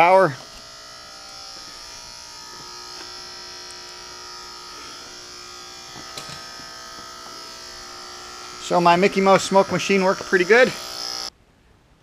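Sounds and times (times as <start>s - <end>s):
air pump buzzing: 0.0s - 11.3s.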